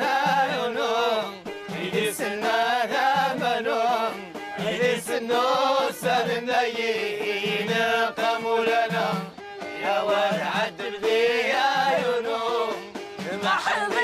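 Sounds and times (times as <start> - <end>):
person singing ornamented lines: 0.0 - 14.0.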